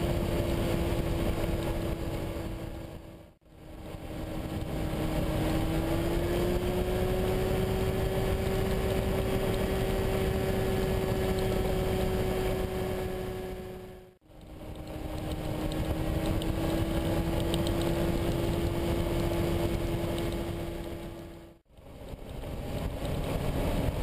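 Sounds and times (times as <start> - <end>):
microlight engine and propeller droning: 0.0 - 24.0.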